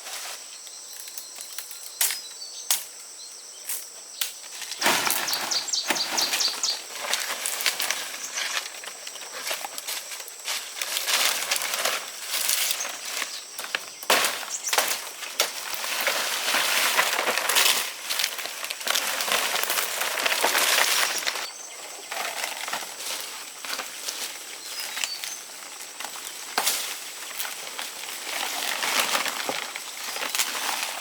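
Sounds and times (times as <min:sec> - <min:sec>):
dry rice stalks rustling: 0:04.5 - 0:31.0.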